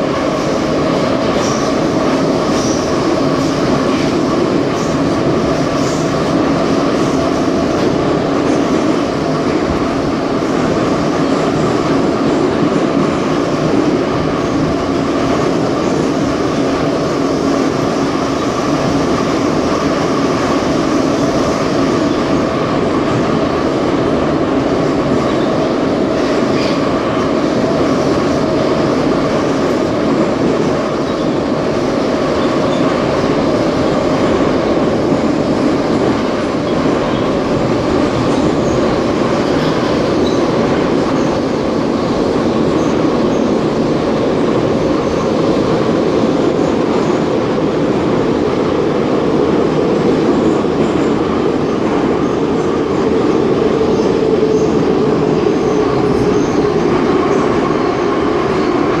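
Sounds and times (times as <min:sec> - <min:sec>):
metro train wheels rumbling: 0:00.0 - 0:59.0.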